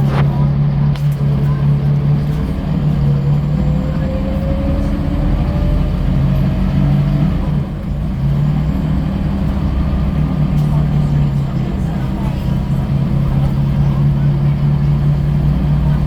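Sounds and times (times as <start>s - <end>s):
bus engine droning: 0.0s - 16.0s
engine whine: 0.0s - 16.0s.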